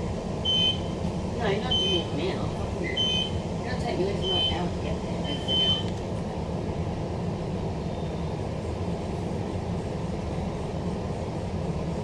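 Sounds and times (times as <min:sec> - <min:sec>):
train car low hum: 0:00.0 - 0:12.0.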